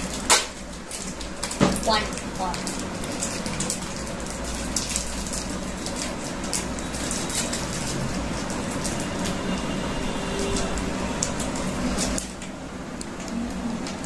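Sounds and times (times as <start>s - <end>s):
low background hum: 0.0s - 14.0s
plastic wrappers crinkling: 0.0s - 14.0s.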